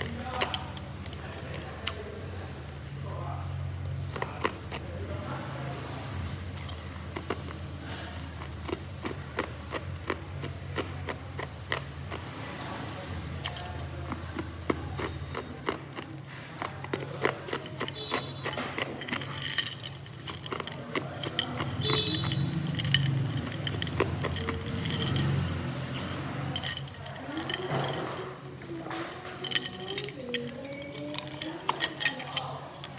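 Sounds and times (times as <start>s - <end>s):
ice being chewed: 0.0s - 32.9s.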